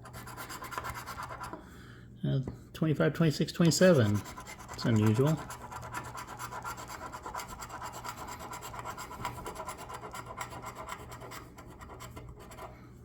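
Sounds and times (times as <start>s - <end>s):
scratching a lottery ticket: 0.0s - 1.6s, 3.6s - 12.8s.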